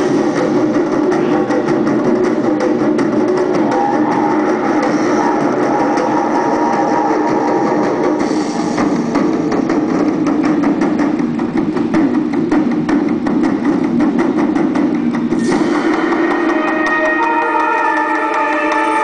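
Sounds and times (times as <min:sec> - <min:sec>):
percussion-heavy music: 0:00.0 - 0:19.0.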